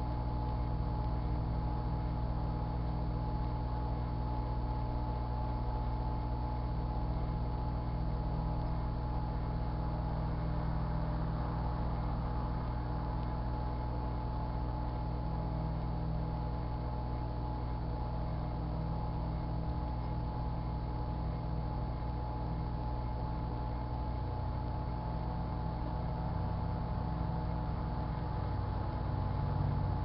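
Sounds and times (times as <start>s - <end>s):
microwave oven humming: 0.0s - 30.0s.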